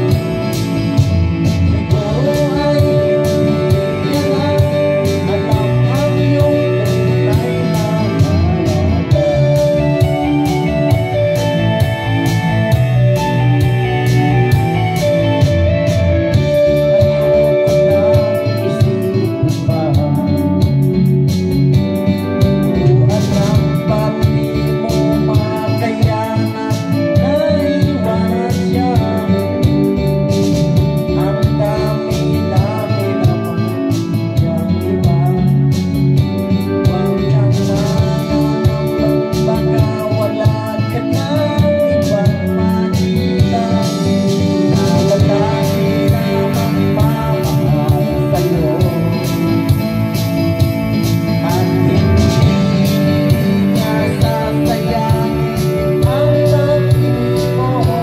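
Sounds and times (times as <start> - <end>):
karaoke backing music: 0.0 - 58.0
man singing into a microphone: 0.0 - 58.0.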